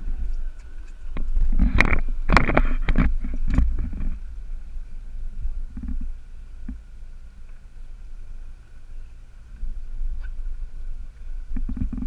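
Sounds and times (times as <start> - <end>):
faint whine: 0.0 - 12.0
outboard motor gurgling rumble: 0.0 - 12.0.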